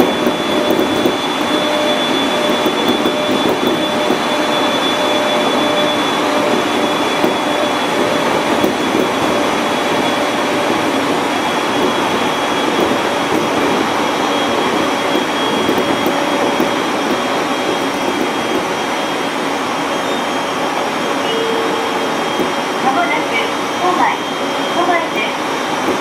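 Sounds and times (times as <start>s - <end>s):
thin high whine: 0.0s - 26.0s
train wheels rumbling on rail: 0.0s - 26.0s.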